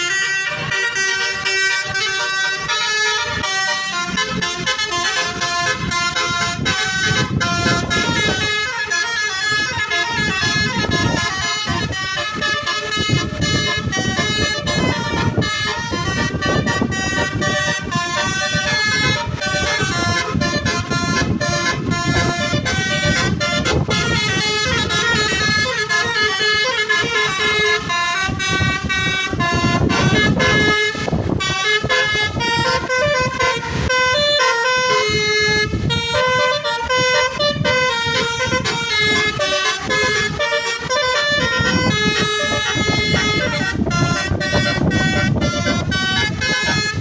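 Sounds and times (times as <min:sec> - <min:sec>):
musical bus horn melody: 0:00.0 - 0:47.0
steady low rumble: 0:00.0 - 0:47.0.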